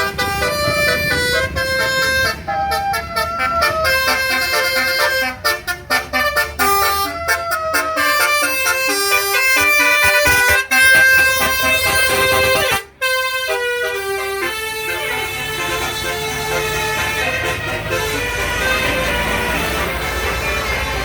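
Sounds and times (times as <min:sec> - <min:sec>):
multi-tone horn melody: 0:00.0 - 0:21.0.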